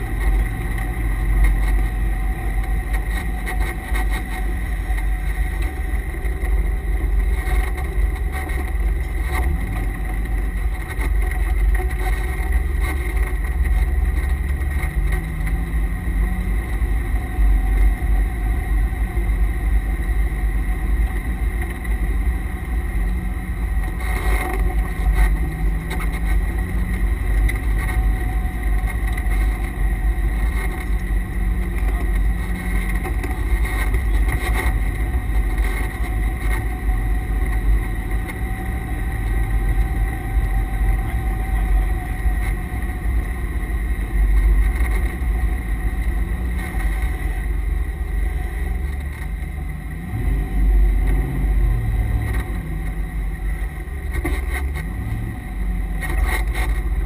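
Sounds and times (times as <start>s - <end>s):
car engine rumbling: 0.0s - 57.0s
high transmission whine: 0.0s - 57.0s.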